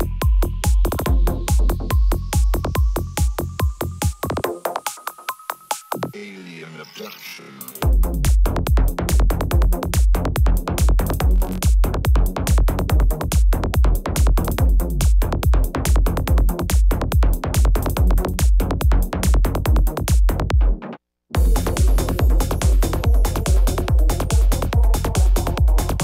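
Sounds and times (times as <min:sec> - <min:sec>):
electronic dance music: 0:00.0 - 0:26.0.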